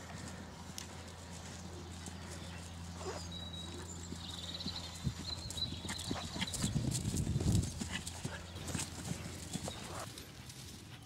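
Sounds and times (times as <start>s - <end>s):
hooves cantering on grass: 0.0s - 11.0s
steady low hum: 0.0s - 11.0s.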